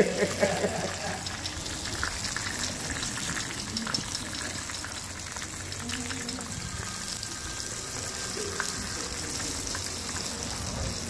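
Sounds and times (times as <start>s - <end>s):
fish sizzling in oil: 0.0s - 11.0s
oil popping: 0.0s - 11.0s.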